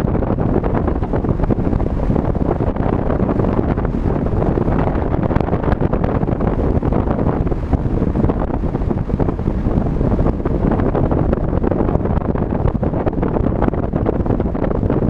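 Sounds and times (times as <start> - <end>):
road and wind noise: 0.0 - 15.0
wind buffeting microphone: 0.0 - 15.0.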